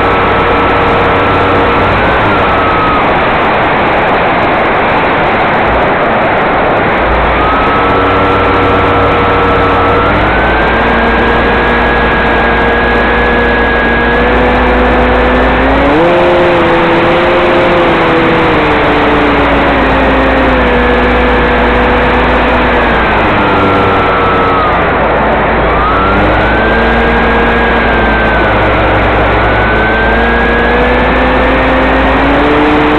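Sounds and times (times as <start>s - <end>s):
model plane motor droning: 0.0s - 32.9s.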